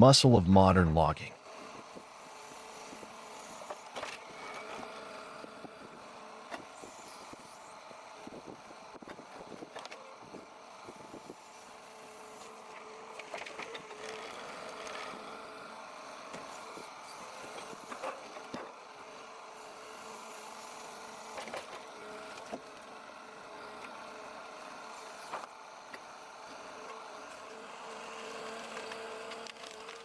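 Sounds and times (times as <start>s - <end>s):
engine and hydraulics whining: 0.0s - 30.0s.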